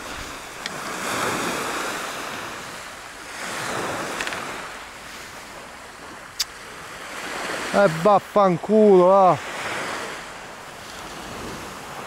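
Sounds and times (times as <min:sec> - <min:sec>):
waves washing up pebble beach: 0:00.0 - 0:12.0.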